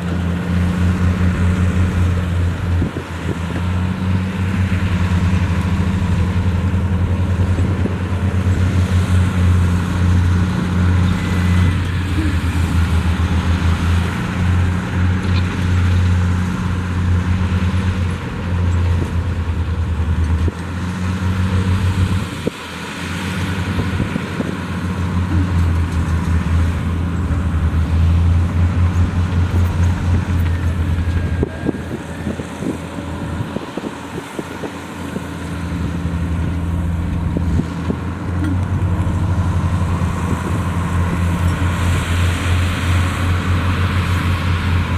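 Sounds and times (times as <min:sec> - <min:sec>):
heavy diesel engine under load: 0:00.0 - 0:44.9.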